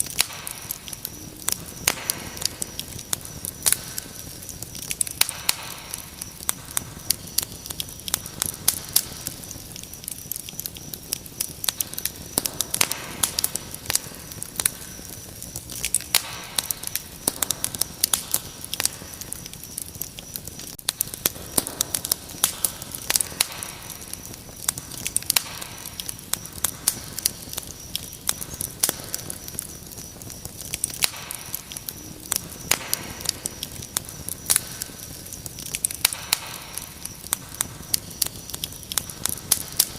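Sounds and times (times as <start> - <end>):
crickets chirping: 0.0 - 39.9
wood fire crackling and popping: 0.0 - 39.9.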